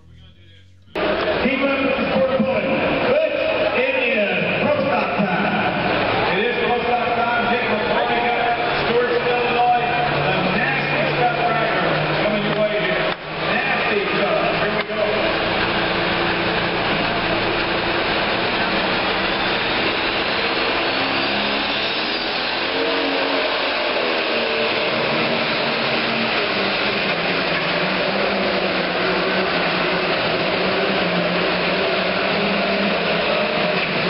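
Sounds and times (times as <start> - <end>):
diesel engine running hard: 1.0 - 34.0.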